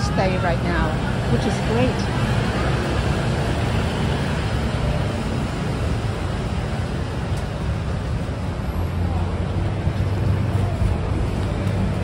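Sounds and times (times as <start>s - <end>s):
city traffic rumble: 0.0s - 12.0s
crowd and stall noise: 0.0s - 12.0s.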